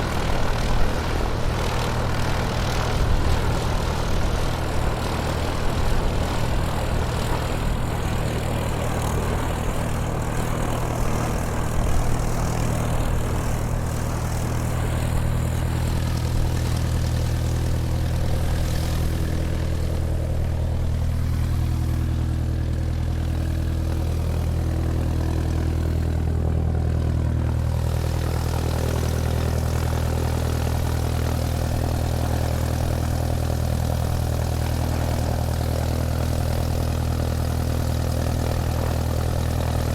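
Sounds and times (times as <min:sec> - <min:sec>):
airplane engine humming: 0:00.0 - 0:39.9.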